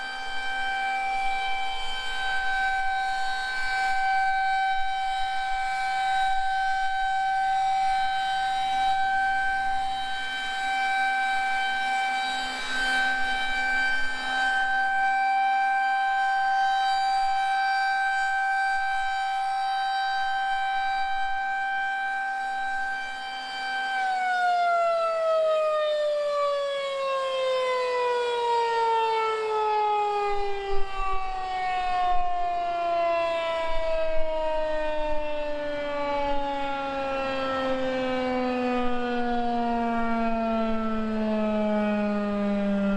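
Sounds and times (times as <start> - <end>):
warning siren steady tone: 0.0 - 42.9.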